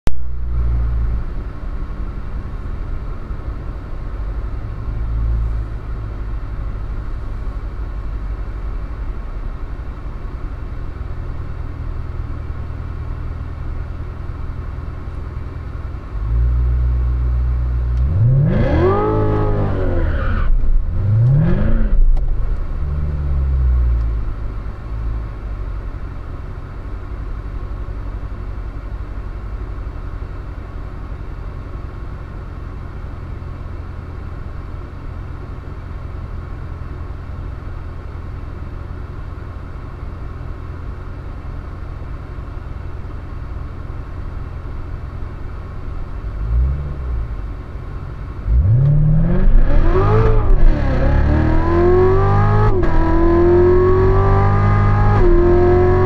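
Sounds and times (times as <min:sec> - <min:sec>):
car engine idling and revving: 0:00.1 - 0:56.0.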